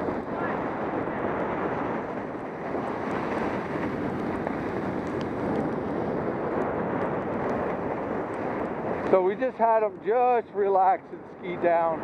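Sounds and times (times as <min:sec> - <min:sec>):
skis sliding over wet snow: 0:00.0 - 0:10.0
wind rushing over microphone: 0:00.0 - 0:12.0.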